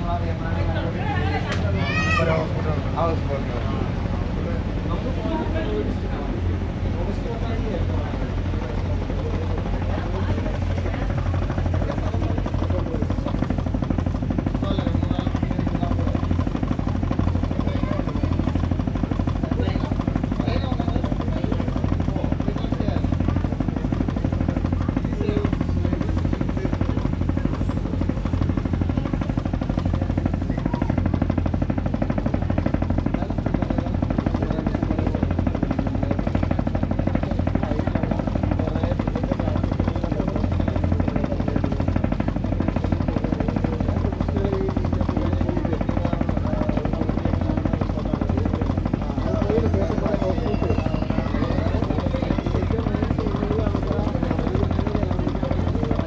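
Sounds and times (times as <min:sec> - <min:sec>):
boat engine throbbing: 0:00.0 - 0:56.0.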